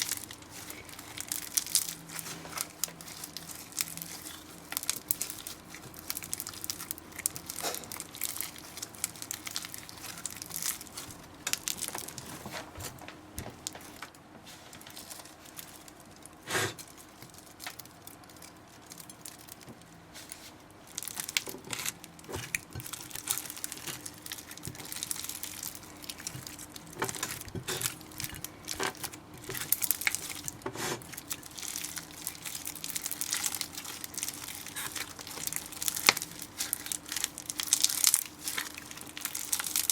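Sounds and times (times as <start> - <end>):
slime crackling and popping: 0.0 - 12.7, 13.4 - 39.9.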